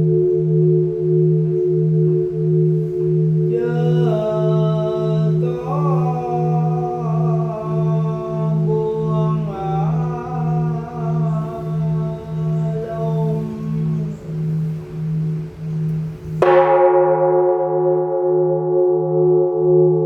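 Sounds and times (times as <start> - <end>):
voice chanting long notes: 0.0 - 16.9
singing bowl humming: 0.0 - 20.0.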